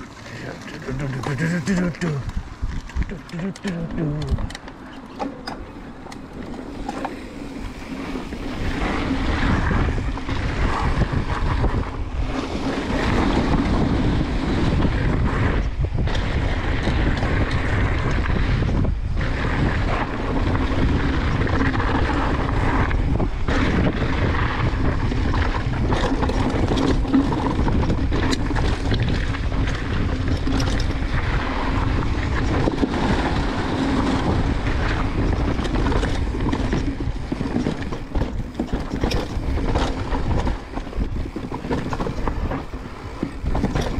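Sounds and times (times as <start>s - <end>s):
mountain bike riding on trail: 0.0s - 43.9s
wind on microphone: 0.0s - 43.9s.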